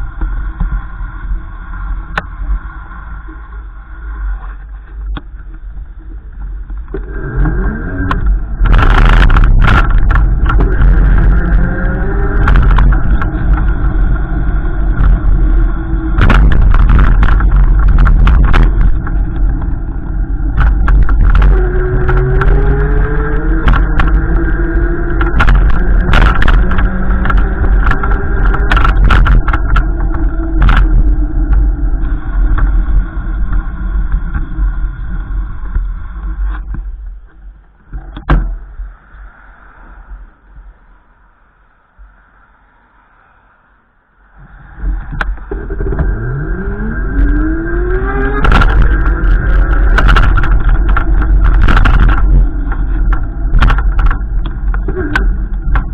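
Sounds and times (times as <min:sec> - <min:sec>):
vehicle engine running: 0:00.0 - 0:38.9, 0:44.5 - 0:55.9
low rumble with crackles: 0:00.0 - 0:55.9.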